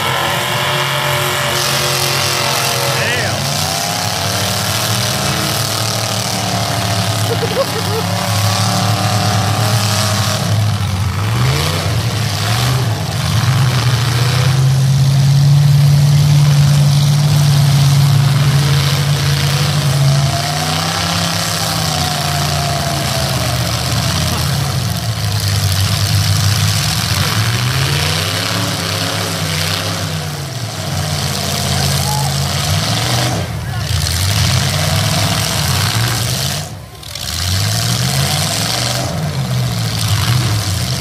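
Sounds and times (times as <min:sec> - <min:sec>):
car engines revving: 0:00.0 - 0:41.0
cars crashing: 0:00.0 - 0:41.0.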